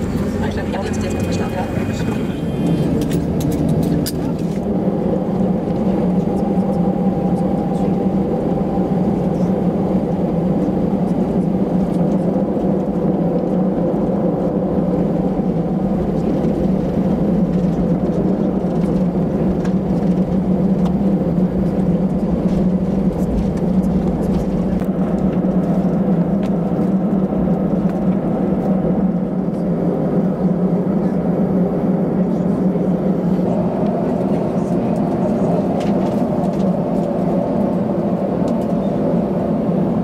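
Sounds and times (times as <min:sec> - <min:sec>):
jet engines humming in cabin: 0:00.0 - 0:40.0.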